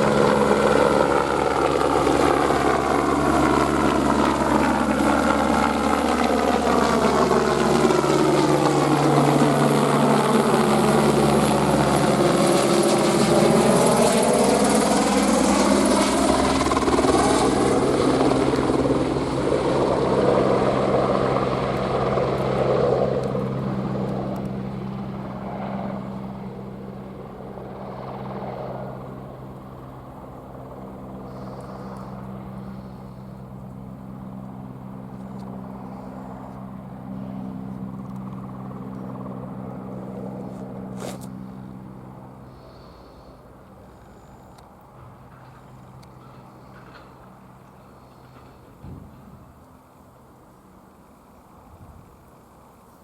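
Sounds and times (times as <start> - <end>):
helicopter rotor and turbine: 0.0 - 53.0.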